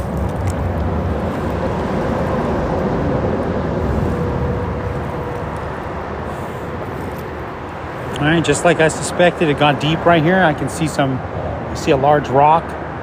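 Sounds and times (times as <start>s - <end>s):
freeway traffic rumbling overhead: 0.0s - 13.0s.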